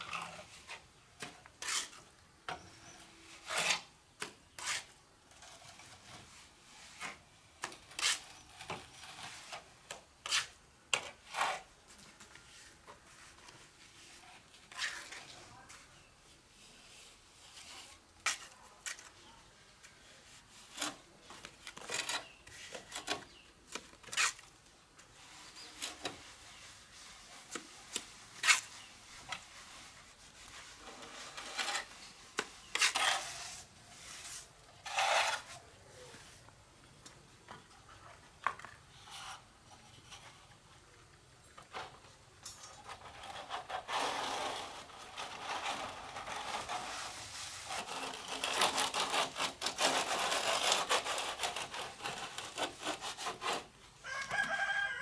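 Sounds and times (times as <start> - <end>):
trowel scraping plaster: 0.0 - 16.0, 16.6 - 36.2, 41.7 - 55.0.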